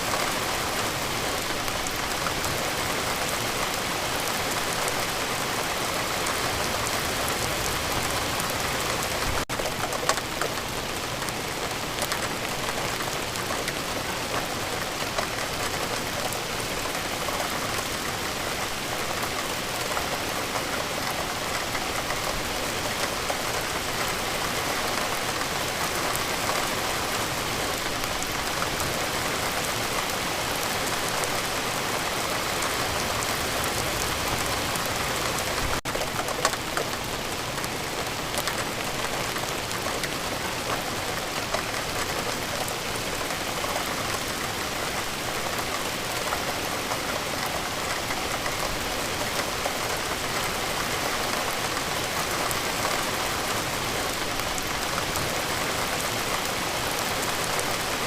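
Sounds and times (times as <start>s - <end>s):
rain drops ticking on a surface: 0.0s - 58.0s.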